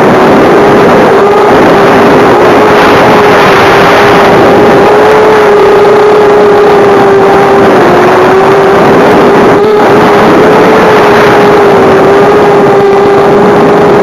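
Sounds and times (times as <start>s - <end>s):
model aircraft motor whine: 0.0s - 14.0s
rushing wind noise: 0.0s - 14.0s.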